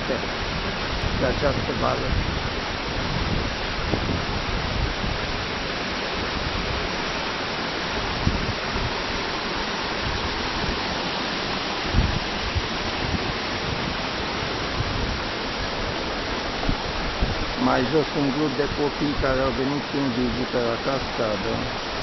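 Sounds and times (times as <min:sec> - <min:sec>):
waterfall and stream rushing: 0:00.0 - 0:22.0.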